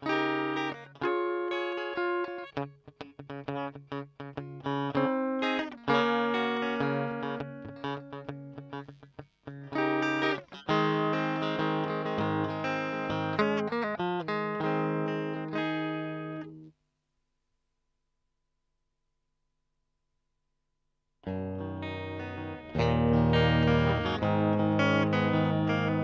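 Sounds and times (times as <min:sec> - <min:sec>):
electric guitar chords and notes: 0:00.0 - 0:16.7, 0:21.2 - 0:26.0.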